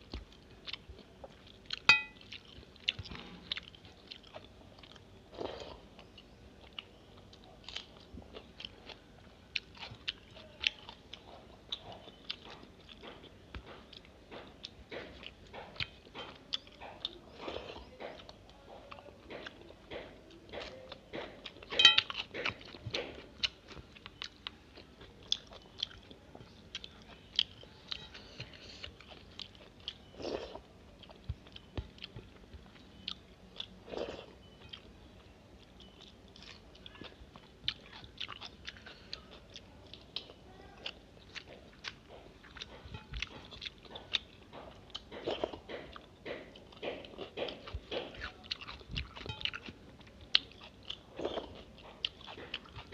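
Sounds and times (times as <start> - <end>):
wet chewing and lip smacking: 0.0 - 52.9.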